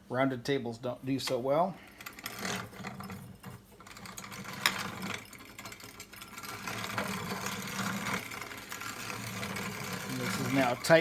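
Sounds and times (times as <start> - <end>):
hand grain grinder rattling: 1.8 - 11.0.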